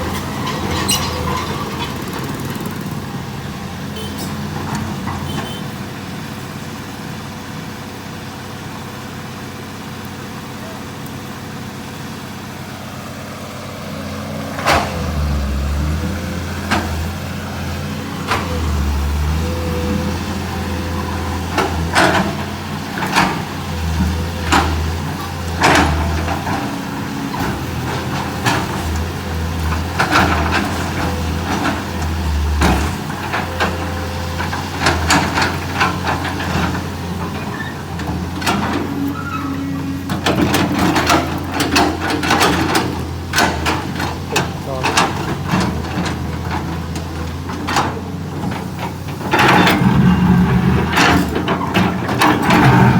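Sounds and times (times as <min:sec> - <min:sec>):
excavator diesel engine working: 0:00.0 - 0:52.9.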